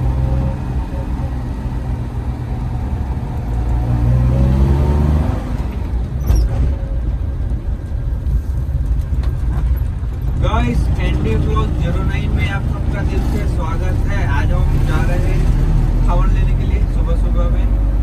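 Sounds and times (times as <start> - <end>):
van engine rumbling: 0.0 - 18.0.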